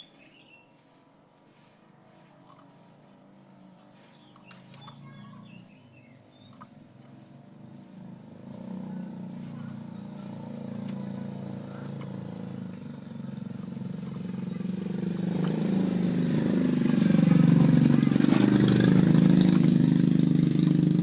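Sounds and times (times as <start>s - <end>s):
vehicle engine approaching: 0.8s - 21.0s.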